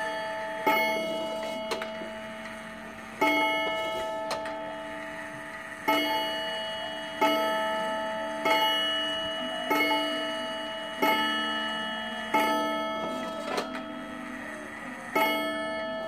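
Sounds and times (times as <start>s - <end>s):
pendulum clock striking: 0.0s - 16.0s.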